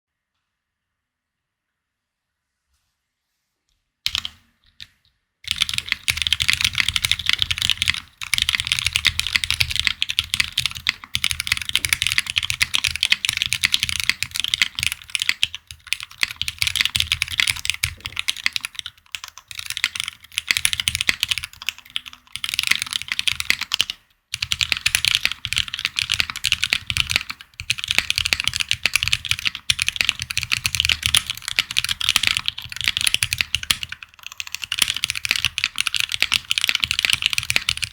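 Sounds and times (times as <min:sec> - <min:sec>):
fast typing on mechanical keyboard: 0:04.1 - 0:04.4, 0:05.4 - 0:37.9.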